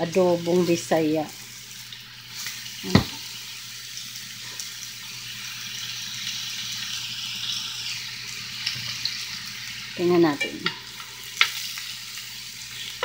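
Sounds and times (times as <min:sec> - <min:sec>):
meat sizzling in skillet: 0:00.0 - 0:13.0.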